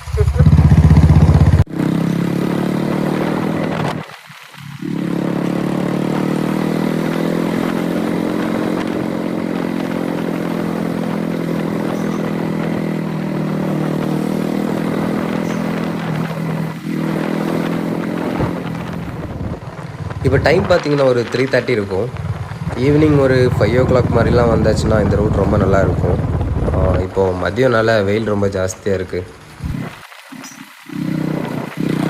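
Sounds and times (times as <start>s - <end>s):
motorcycle engine running: 0.0s - 27.2s, 30.9s - 32.0s.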